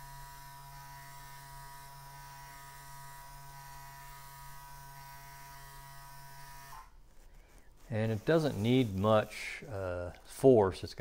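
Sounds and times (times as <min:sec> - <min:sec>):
small electric motor humming: 0:00.0 - 0:10.2.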